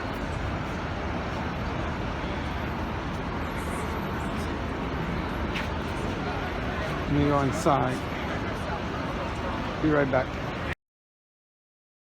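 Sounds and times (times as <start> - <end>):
vehicle and street noise: 0.0 - 10.8.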